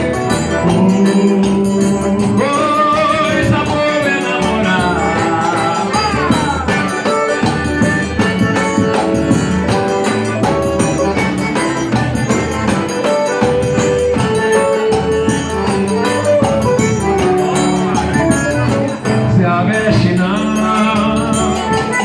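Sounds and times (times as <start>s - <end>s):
live band playing instrumental: 0.0s - 22.0s
steady percussion beat: 0.0s - 22.0s.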